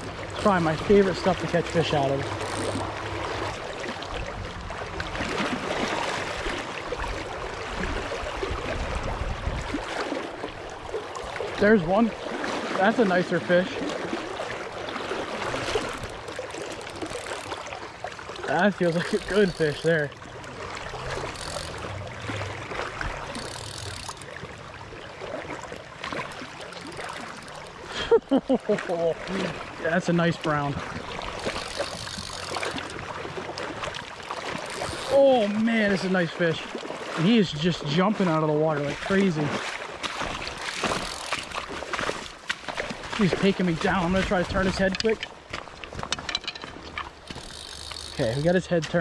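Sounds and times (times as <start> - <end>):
river current rushing: 0.0 - 49.0.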